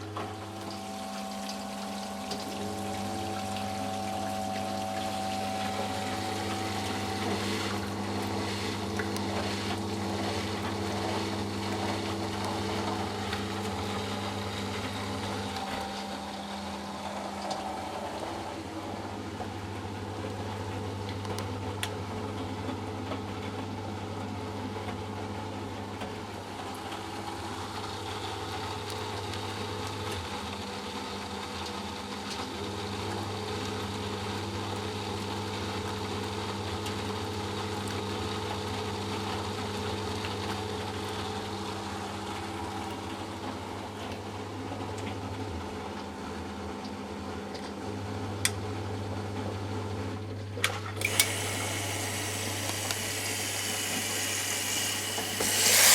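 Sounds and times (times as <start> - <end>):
washing machine drain pump humming: 0.0 - 55.9.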